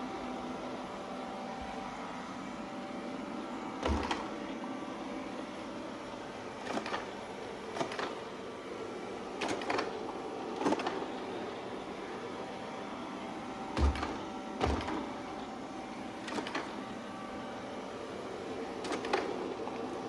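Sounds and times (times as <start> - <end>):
robot vacuum motor whir: 3.7 - 20.0.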